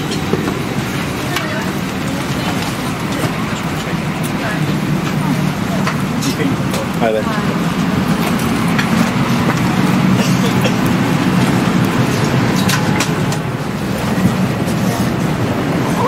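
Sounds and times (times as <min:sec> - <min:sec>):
cabin ventilation hum: 0:00.0 - 0:16.0.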